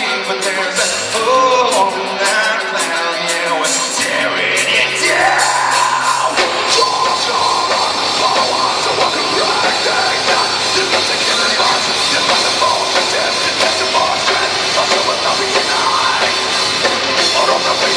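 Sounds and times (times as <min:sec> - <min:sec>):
live heavy rock band: 0:00.0 - 0:17.9.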